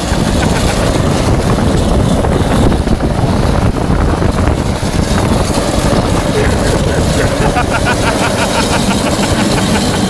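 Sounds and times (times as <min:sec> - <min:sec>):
vehicle rumble at speed: 0:00.0 - 0:10.0
wind buffeting microphone: 0:00.0 - 0:10.0.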